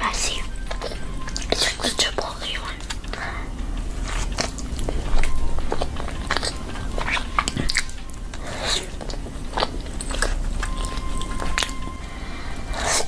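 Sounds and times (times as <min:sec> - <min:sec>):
child chewing bread: 0:00.0 - 0:13.0.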